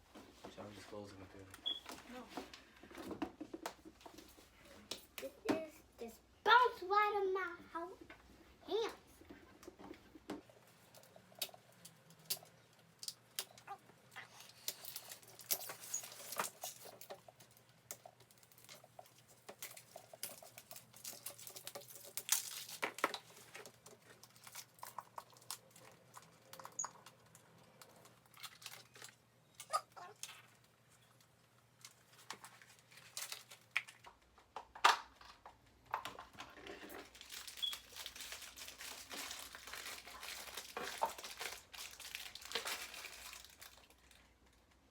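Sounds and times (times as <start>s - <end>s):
crinkling plastic wrappers: 0.6s - 3.2s, 8.8s - 44.9s.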